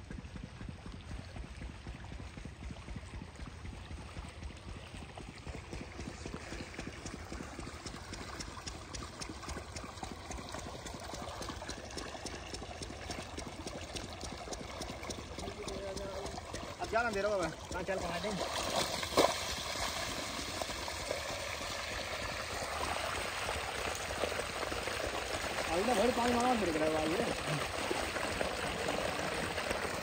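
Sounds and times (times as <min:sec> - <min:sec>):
water gushing from a pipe: 0:00.0 - 0:30.0.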